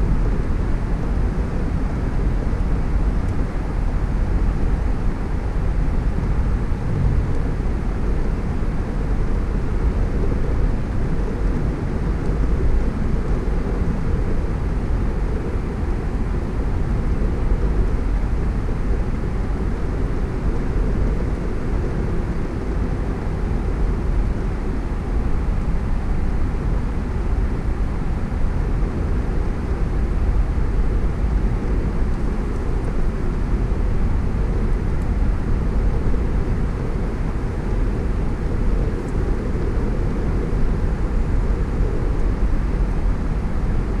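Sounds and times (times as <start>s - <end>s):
car road noise rumble: 0.0s - 44.0s.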